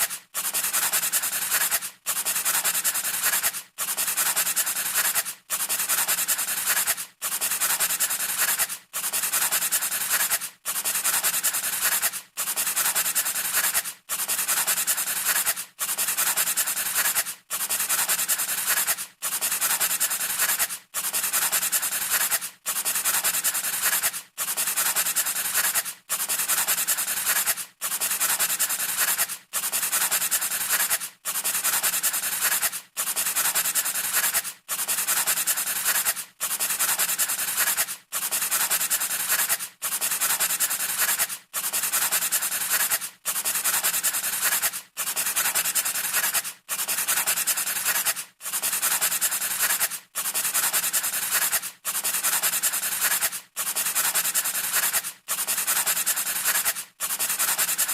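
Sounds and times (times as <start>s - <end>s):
scratchy rubbing strokes: 0.0s - 57.9s.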